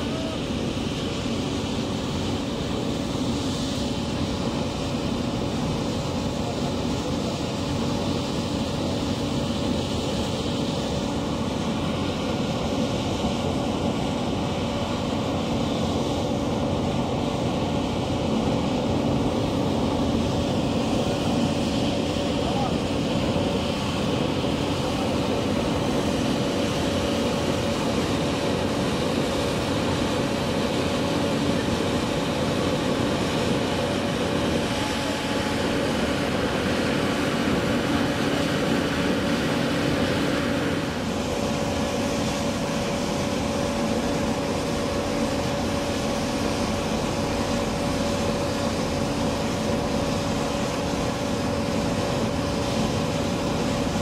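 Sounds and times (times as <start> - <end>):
ship's machinery droning: 0.0 - 54.0.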